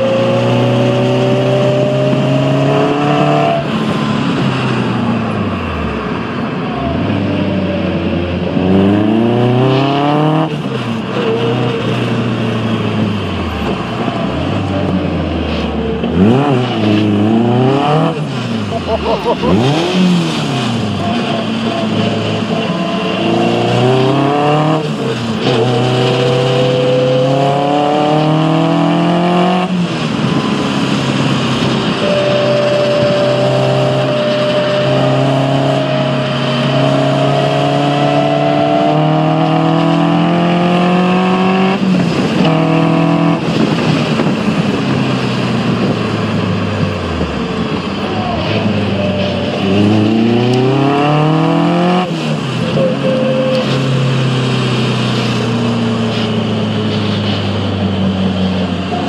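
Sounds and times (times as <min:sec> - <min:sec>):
car engine at full throttle: 0:00.0 - 0:59.0.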